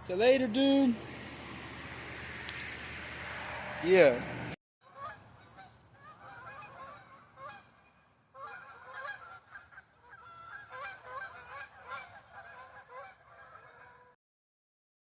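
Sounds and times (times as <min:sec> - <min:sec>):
geese honking: 0:00.9 - 0:14.2.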